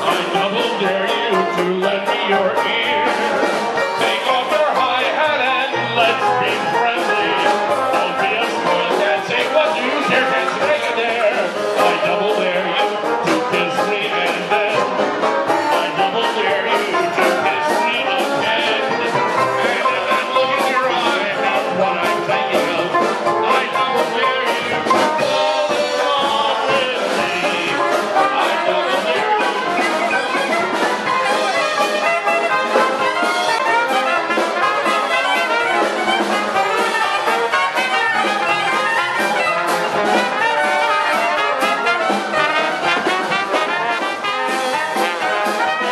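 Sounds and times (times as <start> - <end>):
dixieland jazz band playing: 0.0 - 45.9.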